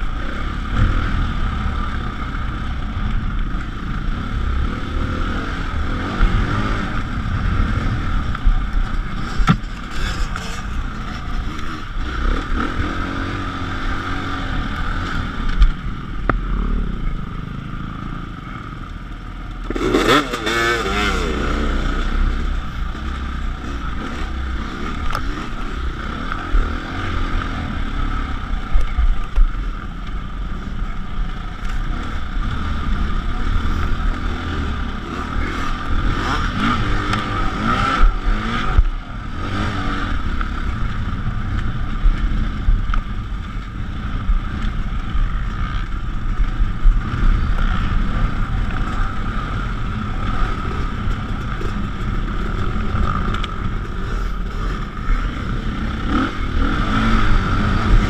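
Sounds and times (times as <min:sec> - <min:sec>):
dirt bike engine revving: 0:00.0 - 0:18.8, 0:19.6 - 0:28.8, 0:29.6 - 0:58.0.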